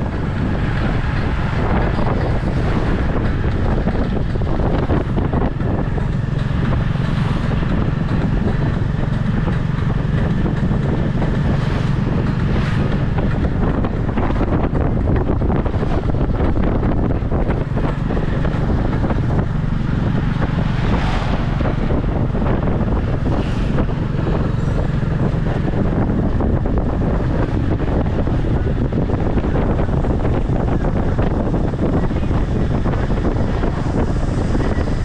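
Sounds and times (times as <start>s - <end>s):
motorbike engine cruising: 0.0s - 35.0s
road noise: 0.0s - 35.0s
wind buffeting microphone: 0.0s - 35.0s.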